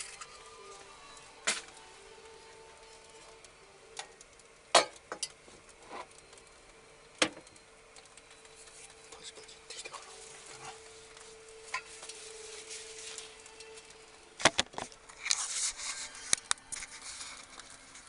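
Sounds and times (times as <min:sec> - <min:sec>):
faint steady hum: 0:00.0 - 0:18.0
soft sizzle-like hiss: 0:00.0 - 0:18.0.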